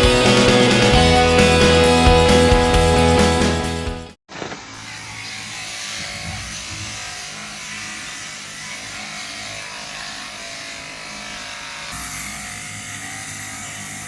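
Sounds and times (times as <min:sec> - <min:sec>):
electric sheep shears running: 0:00.0 - 0:14.0.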